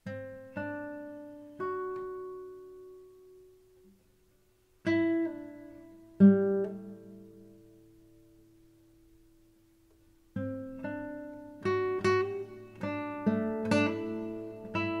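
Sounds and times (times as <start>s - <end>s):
guitar plucked notes and chords: 0.0s - 3.8s, 4.8s - 8.5s, 9.9s - 15.0s.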